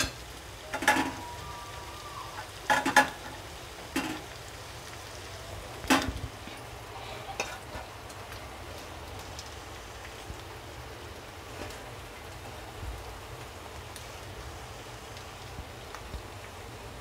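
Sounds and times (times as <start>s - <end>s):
chicken frying sizzle: 0.0s - 17.0s.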